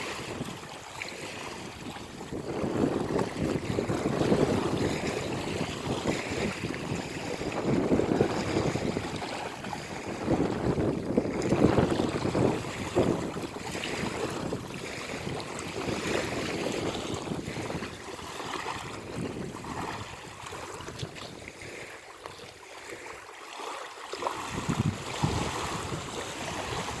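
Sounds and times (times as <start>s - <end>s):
wind buffeting microphone: 0.0s - 22.6s, 24.3s - 27.0s
water splashing around swimmer: 0.0s - 27.0s.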